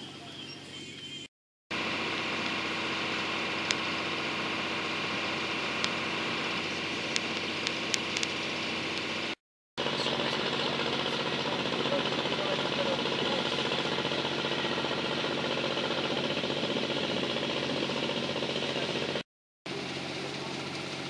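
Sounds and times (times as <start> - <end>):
boat engine humming: 1.7 - 21.0.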